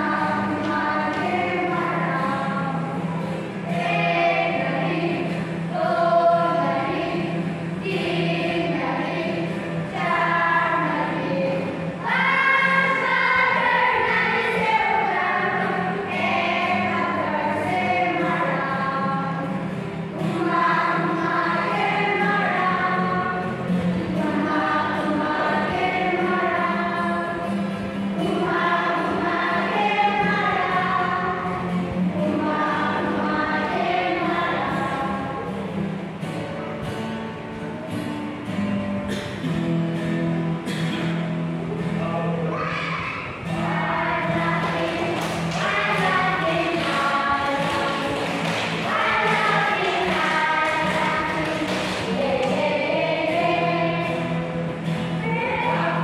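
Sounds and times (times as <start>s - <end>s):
children singing: 0.0s - 35.8s, 42.4s - 56.0s
acoustic guitar: 0.0s - 56.0s.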